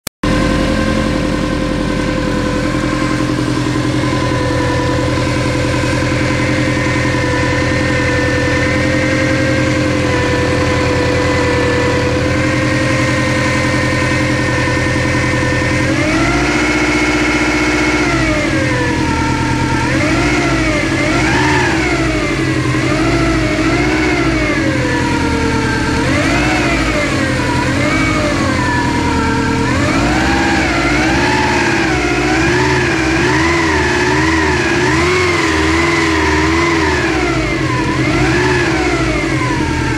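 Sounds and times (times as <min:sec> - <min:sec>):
car engine idling and revving: 0:00.2 - 0:39.9
engine whine: 0:00.2 - 0:39.9.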